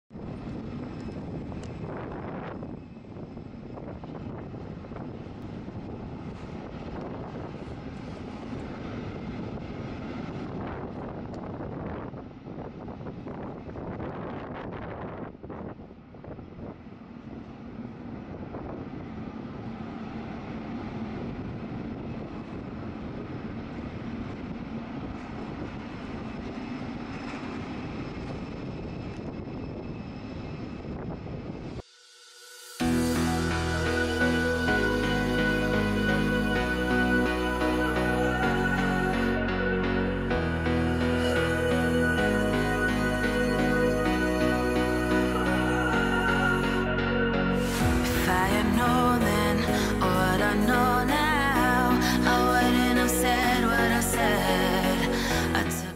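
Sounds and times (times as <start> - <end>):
jet aircraft rumble: 0.1 - 55.9.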